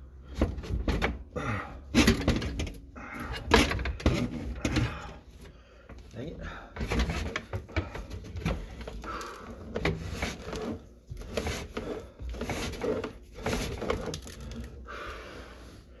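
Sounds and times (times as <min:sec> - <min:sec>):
cable knocking and clattering: 0:00.2 - 0:01.3, 0:01.9 - 0:14.7.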